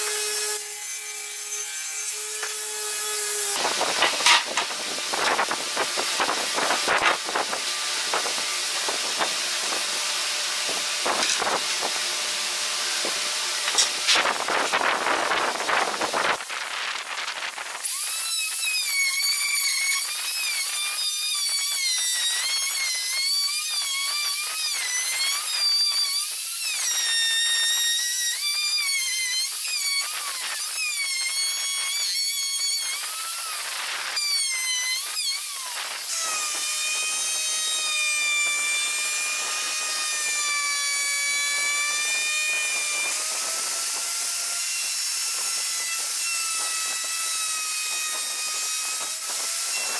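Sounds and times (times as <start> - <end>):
router whining: 0.0 - 49.9.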